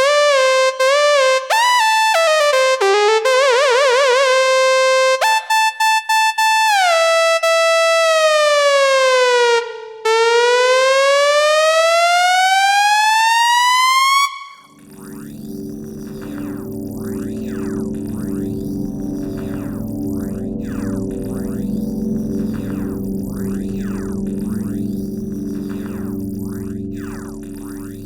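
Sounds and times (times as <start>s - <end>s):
synth lead gliding notes: 0.0s - 28.0s.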